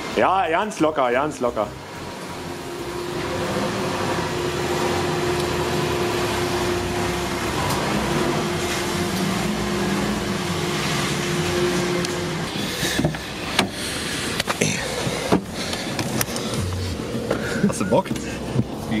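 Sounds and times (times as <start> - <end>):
car engine driving away: 1.4 - 19.0.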